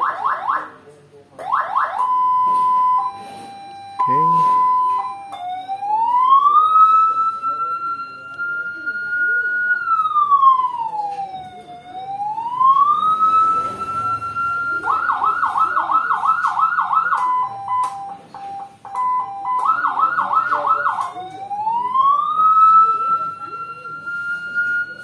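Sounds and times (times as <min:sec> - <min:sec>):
electronic siren wailing and yelping: 0:01.4 - 0:17.7, 0:19.1 - 0:25.0.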